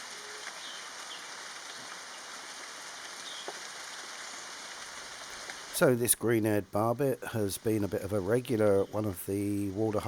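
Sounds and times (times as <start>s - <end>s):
steady outdoor ambience hiss: 0.0s - 10.0s.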